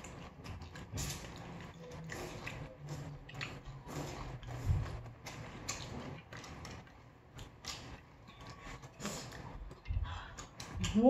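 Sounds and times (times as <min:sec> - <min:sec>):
chewing: 0:00.0 - 0:11.0.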